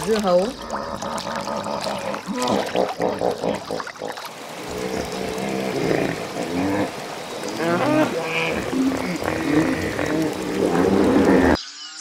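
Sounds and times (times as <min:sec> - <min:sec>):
water splashing: 0:00.0 - 0:11.6
hippopotamus grunting: 0:00.1 - 0:11.6.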